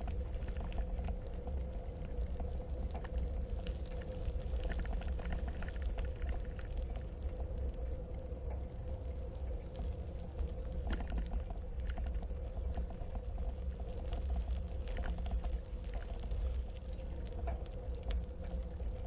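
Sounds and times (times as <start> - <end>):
gravel and bike rattles: 0.0 - 7.6, 10.0 - 19.0
bicycle tyres rolling over gravel: 0.0 - 19.0
faint steady hum: 0.0 - 19.0
wind rumble on microphone: 0.0 - 19.0.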